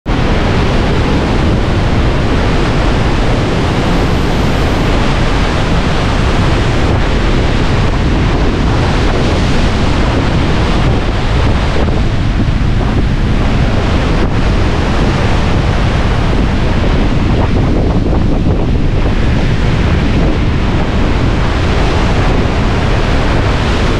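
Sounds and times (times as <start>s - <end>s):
ocean surf breaking: 0.1s - 23.9s
wind buffeting microphone: 0.1s - 23.9s.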